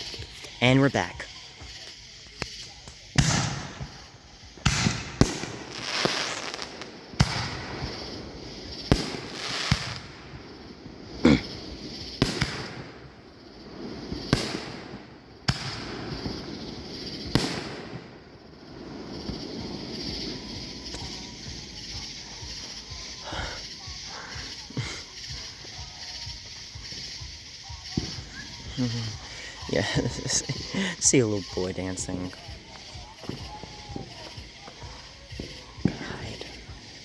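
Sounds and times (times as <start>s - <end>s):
fireworks hissing: 0.0s - 37.0s
fireworks sharp bangs: 0.0s - 37.0s.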